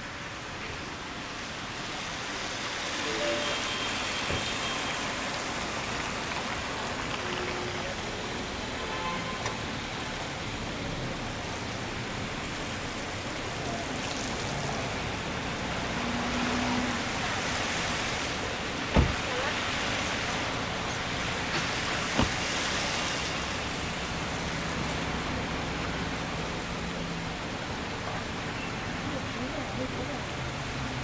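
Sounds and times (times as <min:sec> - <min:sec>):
rain falling on a street: 0:00.0 - 0:31.0.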